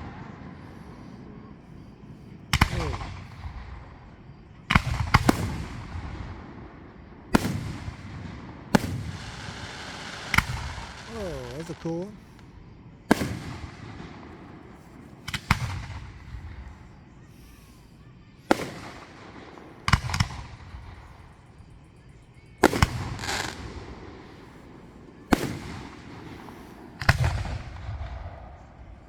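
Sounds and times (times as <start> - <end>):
fireworks bangs: 2.0 - 21.7, 22.6 - 29.0.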